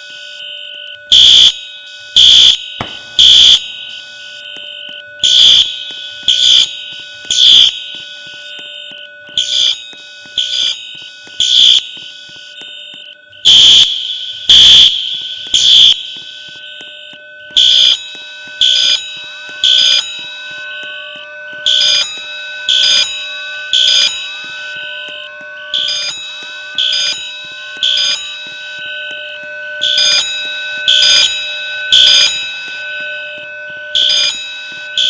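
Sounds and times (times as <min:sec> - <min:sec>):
fire alarm beeping: 0:00.0 - 0:35.0.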